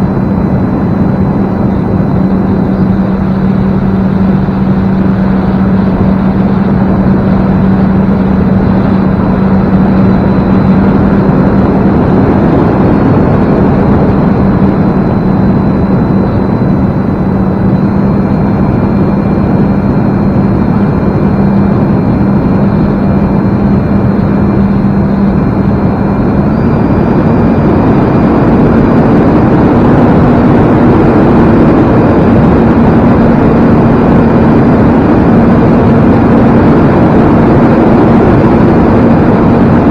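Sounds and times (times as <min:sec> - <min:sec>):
electric motor and propeller humming: 0:00.0 - 0:39.9
wind noise: 0:00.0 - 0:39.9.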